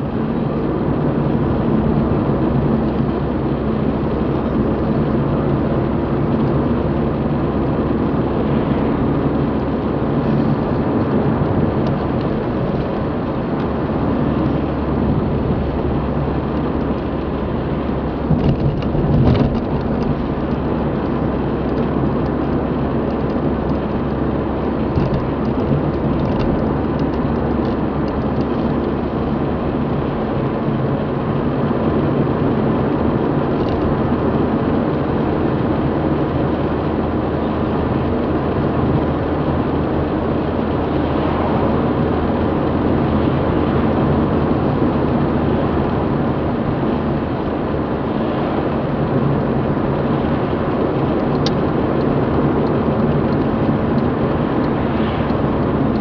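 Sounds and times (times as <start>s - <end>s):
car engine low hum: 0.0s - 56.0s
tyres rumbling on road: 0.0s - 56.0s.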